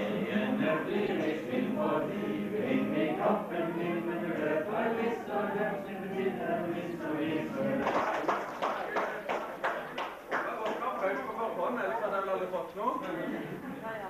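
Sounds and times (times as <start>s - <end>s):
many overlapping voices: 0.0s - 14.0s.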